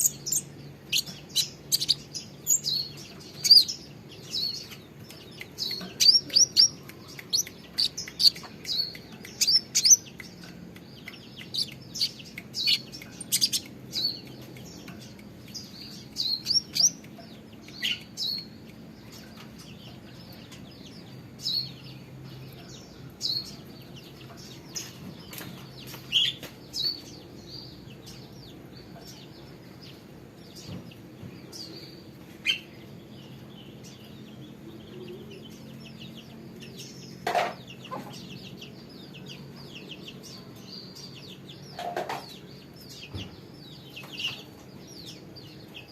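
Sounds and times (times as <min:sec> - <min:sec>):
songbird chirping: 0:00.0 - 0:45.9.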